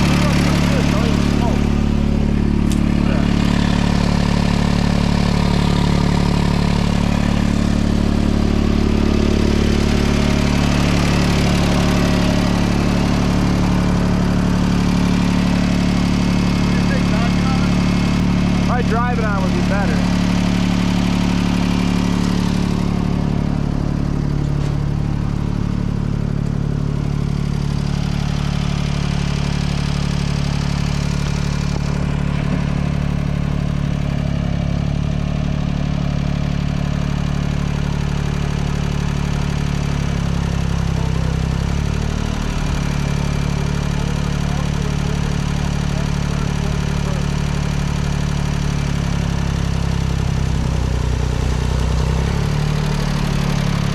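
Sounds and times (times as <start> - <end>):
engine idling: 0.0 - 53.9.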